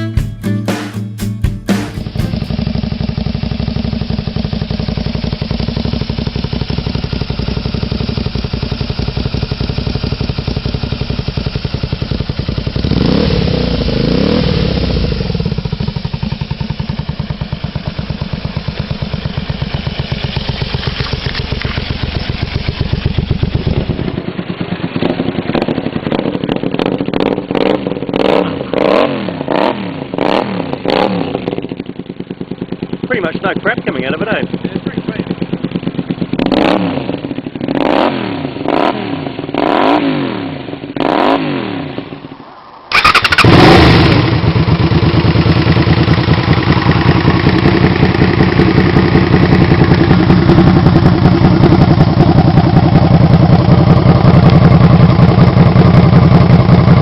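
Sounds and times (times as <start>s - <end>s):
motorcycle engine idling and revving: 1.4s - 57.0s.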